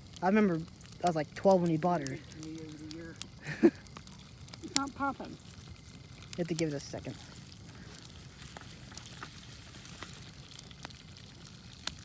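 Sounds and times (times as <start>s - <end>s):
bonfire crackling: 0.0s - 12.0s
sharp wood snaps: 0.1s - 12.0s.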